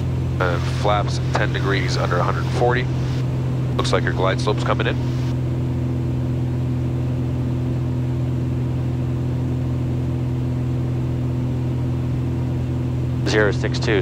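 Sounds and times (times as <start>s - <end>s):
aircraft engine droning in cabin: 0.0s - 14.0s.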